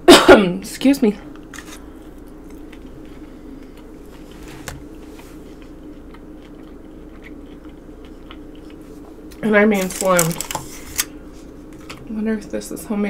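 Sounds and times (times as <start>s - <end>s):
person chewing: 1.4s - 12.0s.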